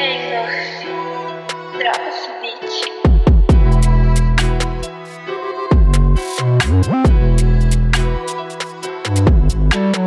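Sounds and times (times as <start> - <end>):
dubstep music: 0.0 - 10.0.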